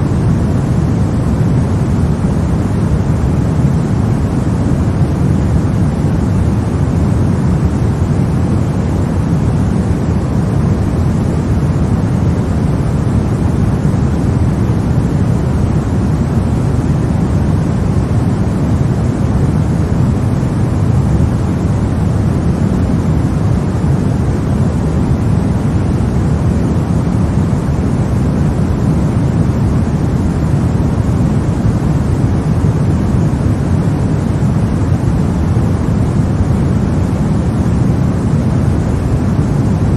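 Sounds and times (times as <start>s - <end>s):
deep rushing white noise: 0.0s - 39.9s.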